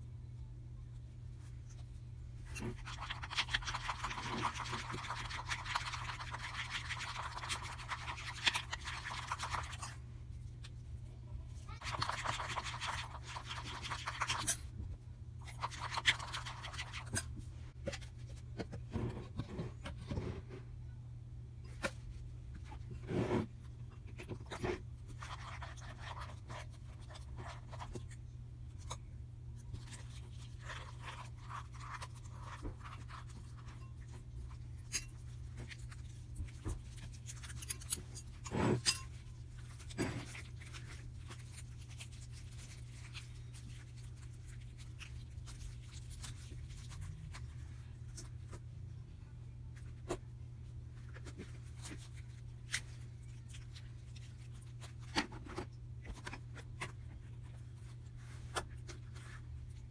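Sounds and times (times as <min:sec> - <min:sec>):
slime squishes: 0:01.4 - 0:20.3, 0:21.7 - 0:59.9.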